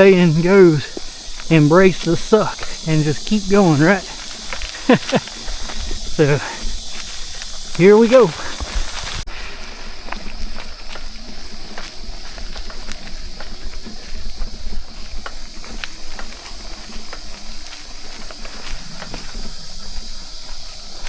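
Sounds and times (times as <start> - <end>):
bike clicks and rattles: 0.0 - 21.0
tyres hissing on sandy trail: 0.0 - 21.0.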